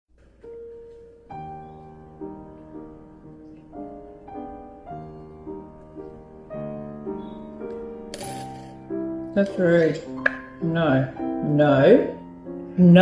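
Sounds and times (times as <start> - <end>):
gentle piano melody: 0.1 - 13.0.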